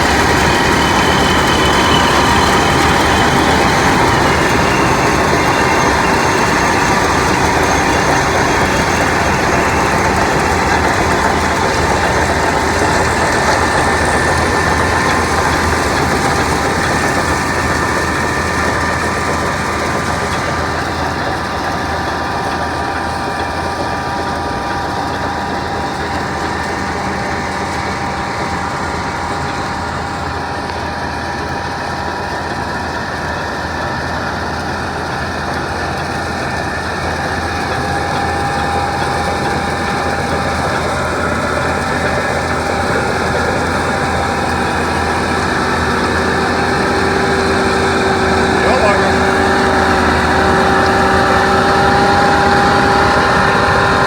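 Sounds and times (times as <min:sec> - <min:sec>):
combine harvester engine hum: 0:00.0 - 0:54.0
machinery whine: 0:00.0 - 0:54.0.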